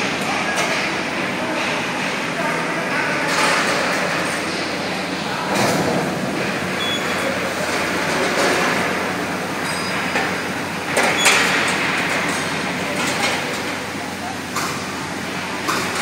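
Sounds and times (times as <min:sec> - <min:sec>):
machinery din with low hum: 0:00.0 - 0:16.0.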